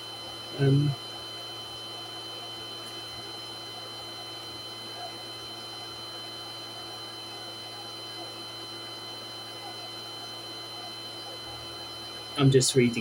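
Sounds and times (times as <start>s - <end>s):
electric fan running: 0.0s - 13.0s
faint high whines: 0.0s - 13.0s.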